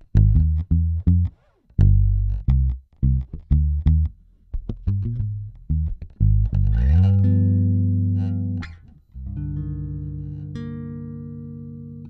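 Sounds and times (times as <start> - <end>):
bass guitar plucked notes: 0.0 - 12.0.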